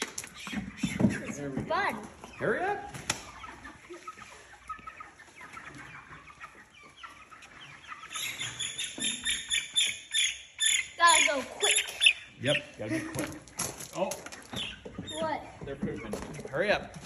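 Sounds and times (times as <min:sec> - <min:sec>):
chicks cheeping and clucking: 0:00.0 - 0:17.0.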